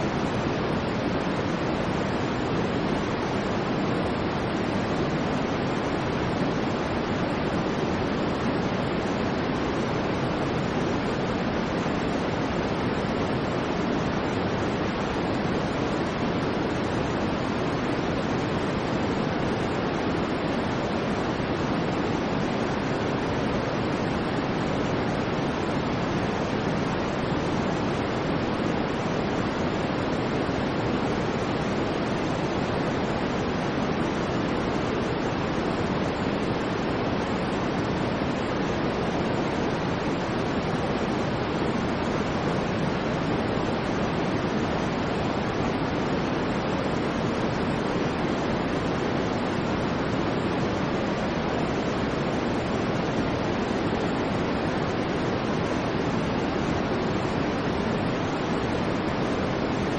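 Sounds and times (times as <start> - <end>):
steady deep hiss noise: 0.0 - 59.9.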